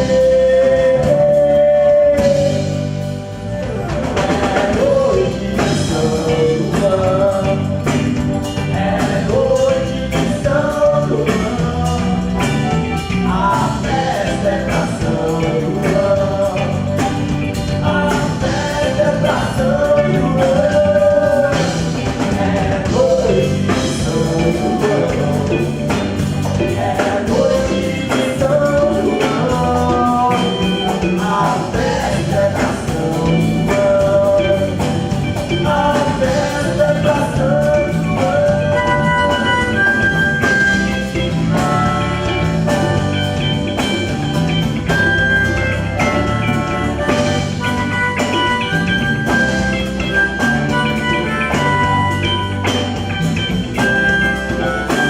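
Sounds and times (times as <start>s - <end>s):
band playing instrumental: 0.0s - 55.0s.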